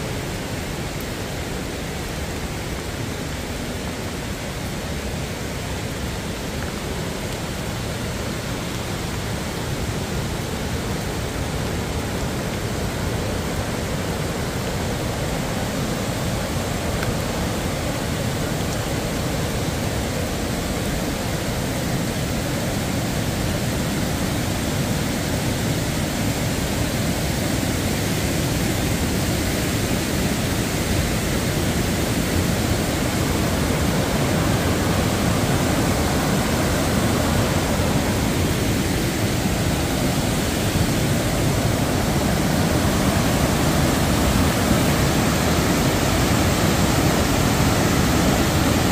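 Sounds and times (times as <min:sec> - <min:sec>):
rushing river water: 0:00.0 - 0:48.9.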